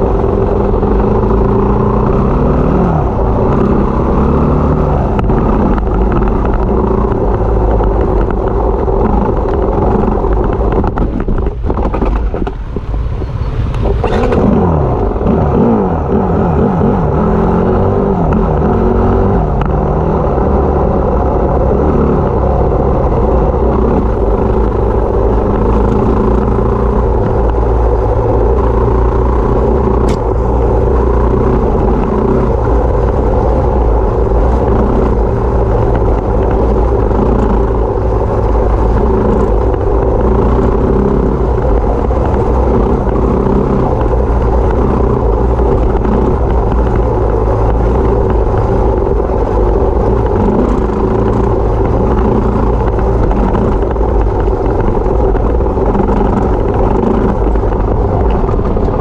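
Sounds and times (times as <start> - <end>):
constant low rumble: 0.0 - 59.0
dirt bike engine running: 0.0 - 59.0.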